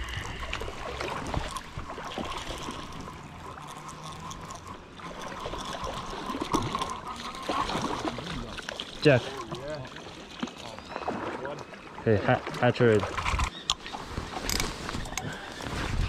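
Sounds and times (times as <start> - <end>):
small splashes: 0.0 - 14.1
river water lapping over pebbles: 0.0 - 16.0.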